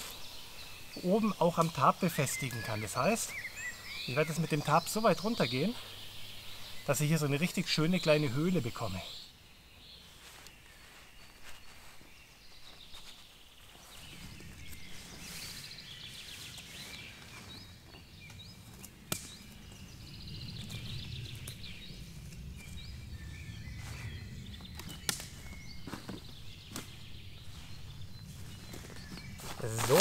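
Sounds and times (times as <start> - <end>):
woodland birds singing: 0.0 - 30.0.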